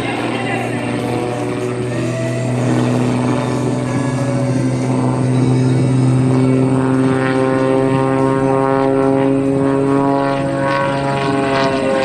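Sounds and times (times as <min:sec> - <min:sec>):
airplane engine droning: 0:00.0 - 0:12.0.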